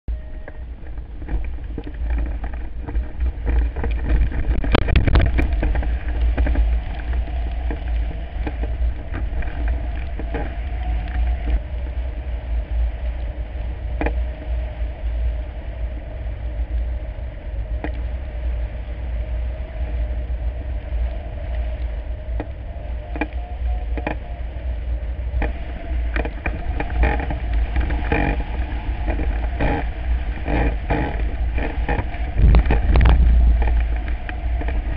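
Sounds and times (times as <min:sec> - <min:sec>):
wind buffeting microphone: 0:00.1 - 0:34.9.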